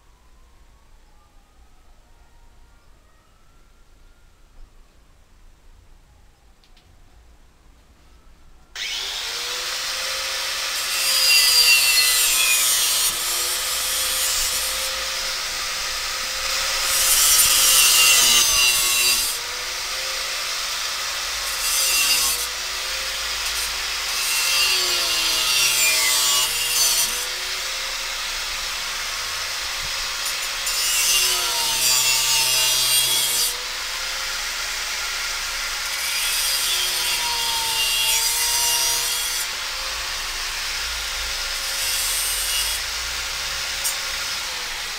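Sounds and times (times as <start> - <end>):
angle grinder grinding steel: 8.8 - 44.9.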